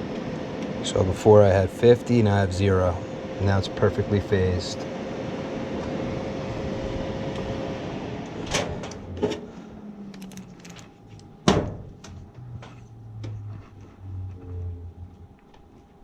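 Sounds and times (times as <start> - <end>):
equipment humming: 0.0 - 16.0.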